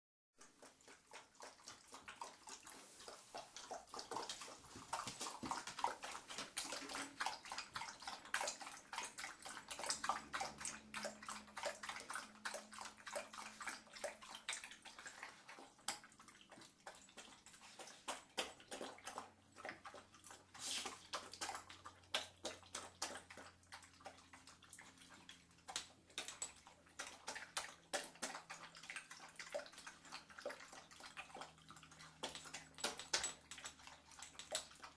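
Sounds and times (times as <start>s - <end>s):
water splashing and sloshing: 0.4s - 34.9s.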